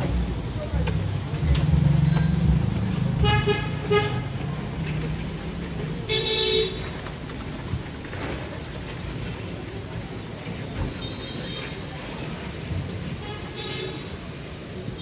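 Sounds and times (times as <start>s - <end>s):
street traffic rumbling: 0.0s - 15.0s.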